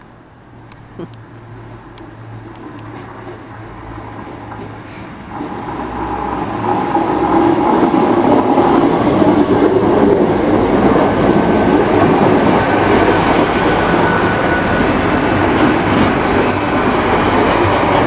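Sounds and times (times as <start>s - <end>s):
train wheels rushing past: 2.9s - 18.0s.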